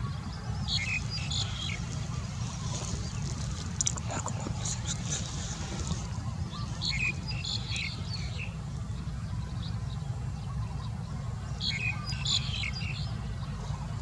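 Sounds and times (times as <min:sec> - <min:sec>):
steady low rumble: 0:00.0 - 0:14.0
bird chirping: 0:00.2 - 0:14.0.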